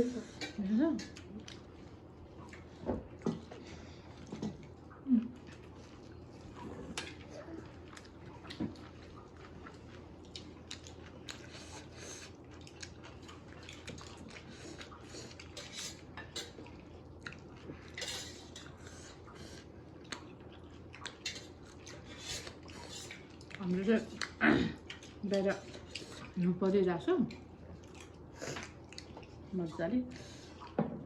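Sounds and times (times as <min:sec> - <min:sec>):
chewing and biting: 0:01.1 - 0:18.0, 0:18.6 - 0:26.4, 0:27.4 - 0:29.4.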